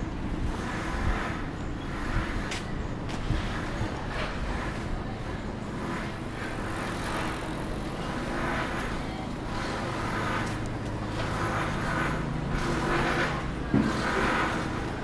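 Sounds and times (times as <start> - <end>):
motor vehicle engine humming: 0.0 - 15.0
street ambience: 0.0 - 15.0.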